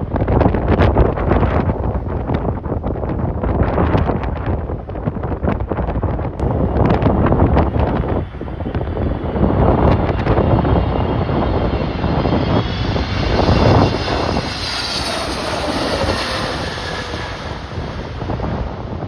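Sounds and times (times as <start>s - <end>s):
jet airliner engine whine: 0.0s - 19.0s
wind buffeting microphone: 0.0s - 19.0s.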